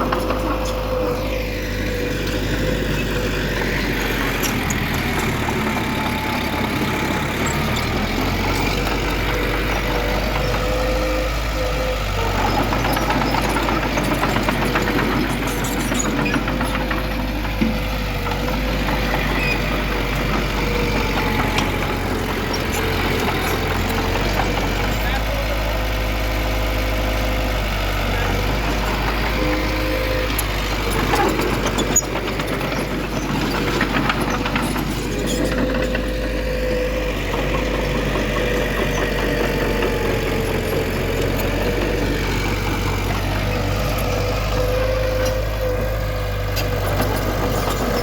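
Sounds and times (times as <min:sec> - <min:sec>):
heavy diesel machinery engine: 0:00.0 - 0:48.0.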